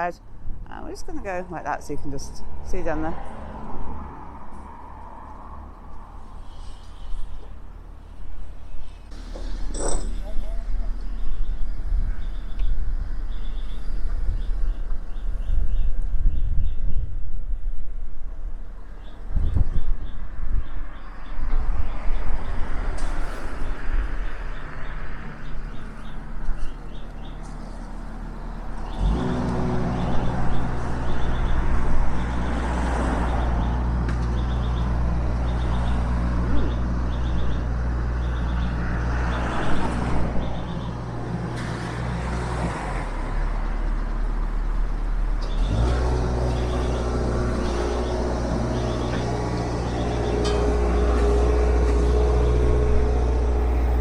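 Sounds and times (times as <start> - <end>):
engine humming: 0.0 - 54.0
road traffic passing: 0.0 - 54.0.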